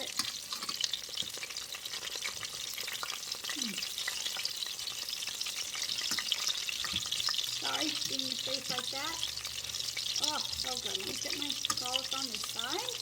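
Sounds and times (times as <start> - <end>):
oil sizzling and popping: 0.0 - 13.0.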